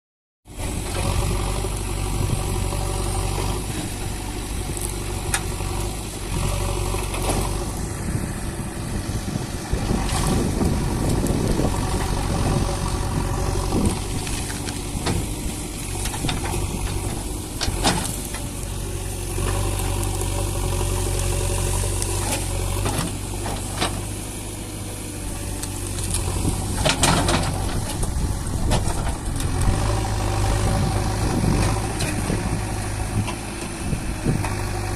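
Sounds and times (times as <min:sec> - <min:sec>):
diesel engine running: 0:00.5 - 0:34.9.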